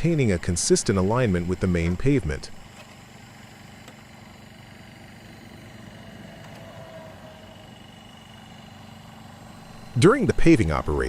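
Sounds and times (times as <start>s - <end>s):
diesel engine droning: 0.0s - 3.2s, 3.8s - 11.0s.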